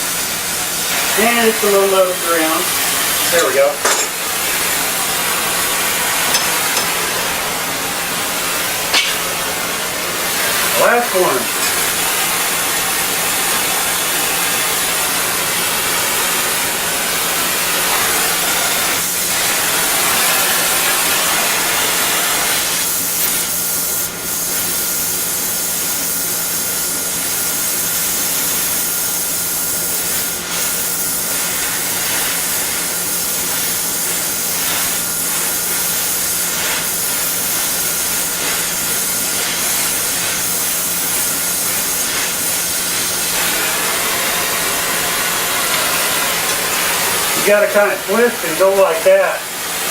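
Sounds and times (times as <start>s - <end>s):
gas torch flame hissing: 0.0s - 49.9s.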